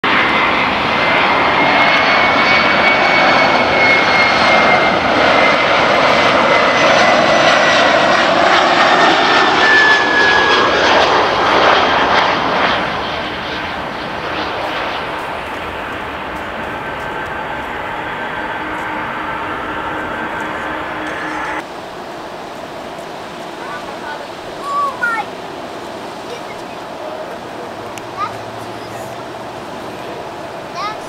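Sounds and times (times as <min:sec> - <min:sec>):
high jet whine: 0:00.0 - 0:31.0
jet engines rushing: 0:00.0 - 0:31.0.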